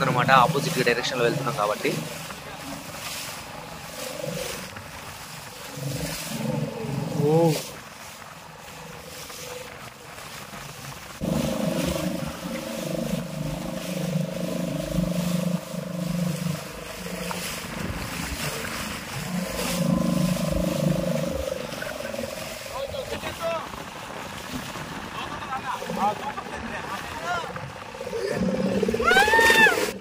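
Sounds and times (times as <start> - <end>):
motorboat engine running: 0.0 - 30.0
water noise: 0.0 - 30.0
wind: 0.0 - 30.0.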